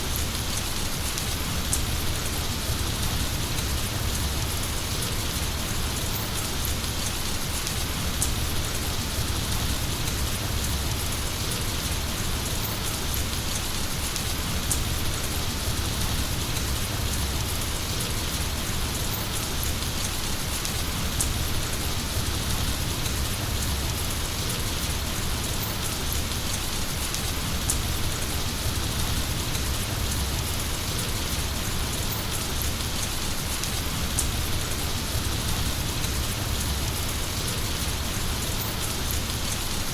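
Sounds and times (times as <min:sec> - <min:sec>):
heavy rain falling: 0:00.0 - 0:39.9
sharp raindrop ticks: 0:00.0 - 0:39.9.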